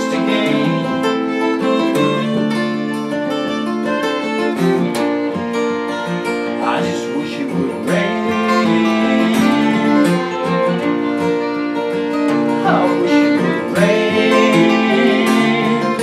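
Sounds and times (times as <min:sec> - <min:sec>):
acoustic guitars strumming: 0:00.0 - 0:16.0
fiddle playing sustained notes: 0:00.0 - 0:16.0.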